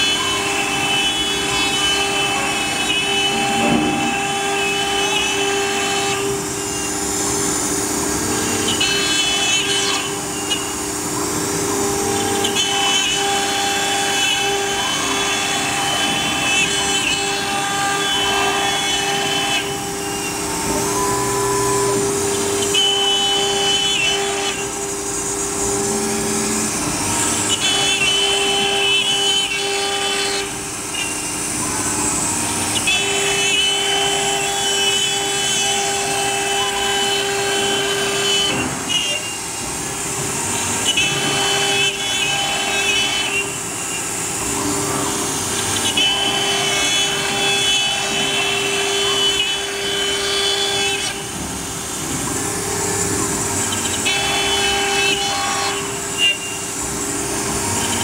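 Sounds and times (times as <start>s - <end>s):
router spindle whine: 0.0s - 58.0s.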